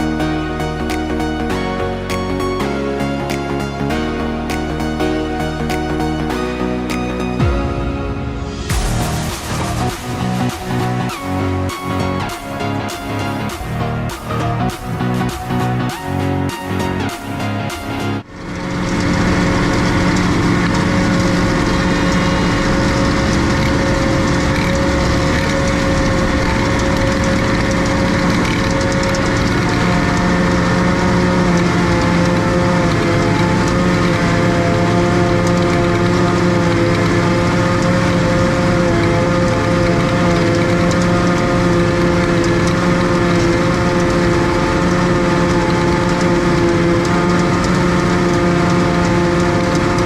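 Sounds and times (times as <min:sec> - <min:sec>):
tractor and forage harvester: 0:00.0 - 0:50.0
machine whine: 0:07.2 - 0:50.0.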